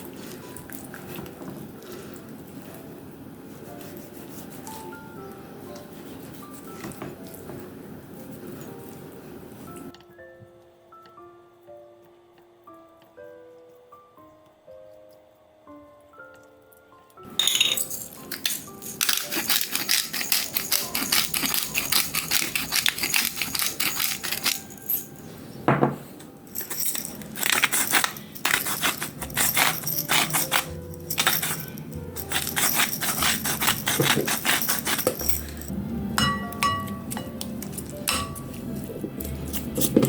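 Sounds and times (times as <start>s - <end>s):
background music: 0.0s - 40.0s.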